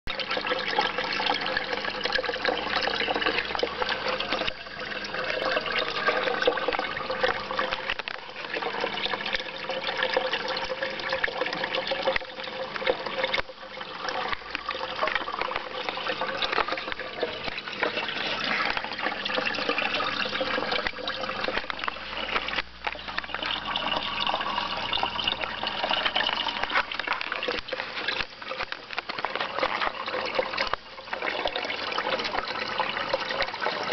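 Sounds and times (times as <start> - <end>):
water trickling and splashing: 0.1 - 33.9.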